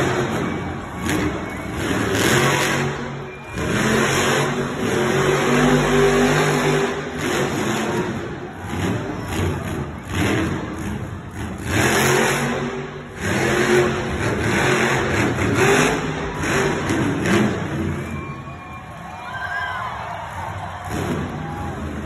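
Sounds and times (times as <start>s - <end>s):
truck engine revving: 0.0s - 18.4s.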